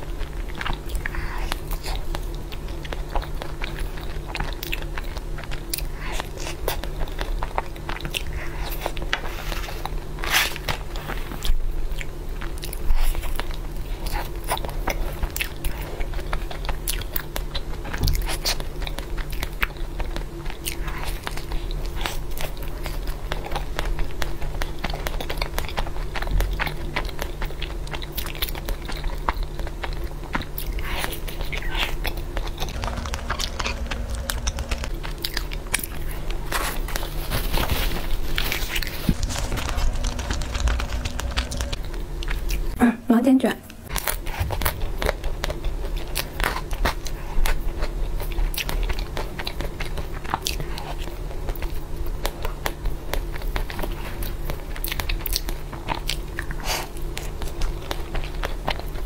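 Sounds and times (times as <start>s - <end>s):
chewing and crunching: 0.0s - 42.8s, 43.9s - 59.0s
faint low hum: 0.0s - 51.8s.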